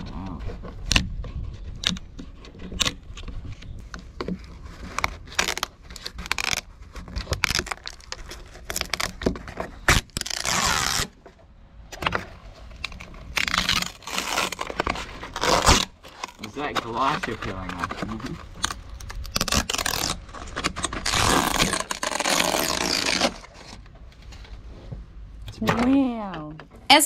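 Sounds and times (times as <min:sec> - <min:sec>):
wood tearing rasps: 0:00.0 - 0:23.9
scraping rotten wood: 0:00.0 - 0:24.6.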